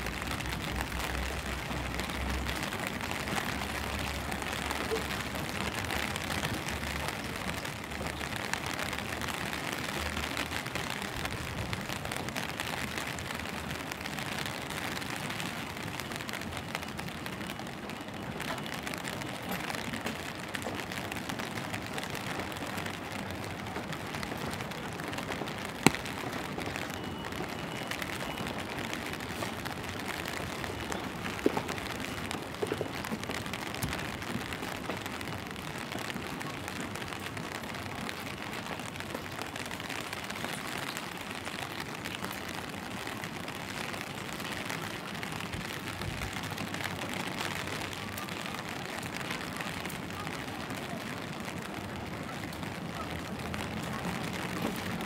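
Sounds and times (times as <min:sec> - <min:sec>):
rain on wet pavement: 0:00.0 - 0:55.0.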